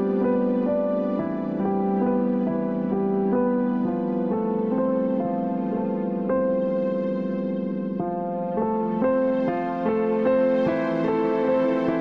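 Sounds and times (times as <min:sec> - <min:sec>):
instrumental film score music: 0:00.0 - 0:12.0.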